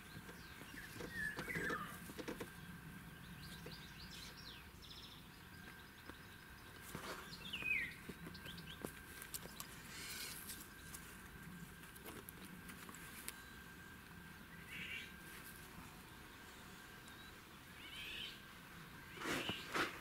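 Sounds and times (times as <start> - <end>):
small birds chirping faintly: 0.0 - 20.0.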